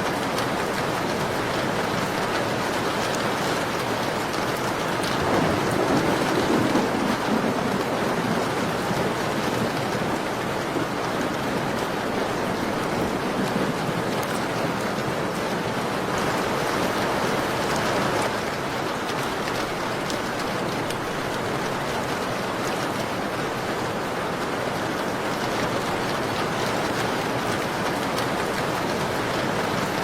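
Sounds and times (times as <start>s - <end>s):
rain on a window: 0.0s - 30.0s
ticks of raindrops: 0.0s - 30.0s.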